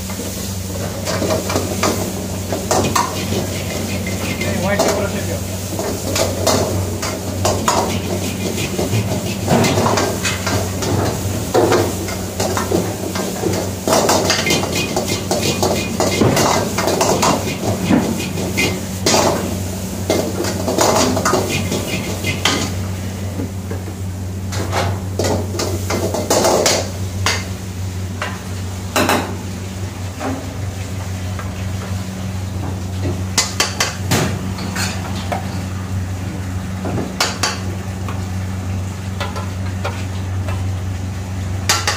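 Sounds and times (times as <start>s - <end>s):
food sizzling: 0.0s - 41.9s.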